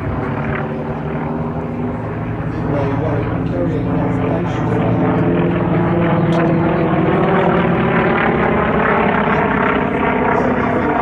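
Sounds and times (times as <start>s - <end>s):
propeller aircraft engine: 0.0s - 11.0s.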